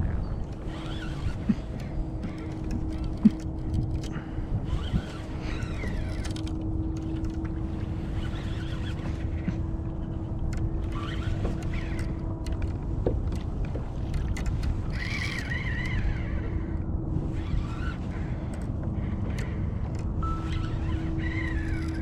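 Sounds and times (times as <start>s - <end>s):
water around a kayak: 0.0s - 22.0s
wind rumbling on microphone: 0.0s - 22.0s.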